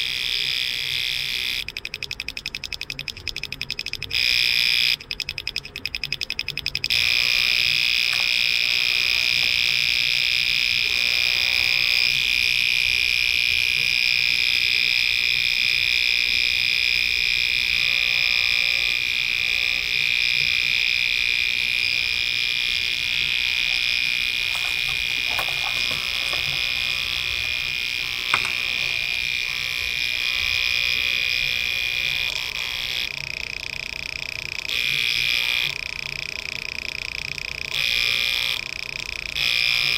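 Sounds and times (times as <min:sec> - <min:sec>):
high steady buzzer: 0:00.0 - 0:39.9.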